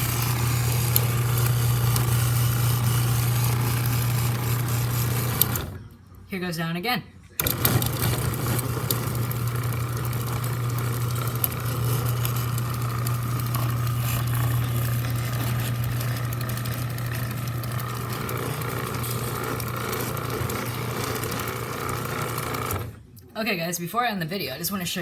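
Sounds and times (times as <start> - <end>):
chain drive running along rail: 0.0 - 5.8, 7.4 - 23.0
garage door opener motor hum: 0.0 - 5.9, 7.4 - 23.1.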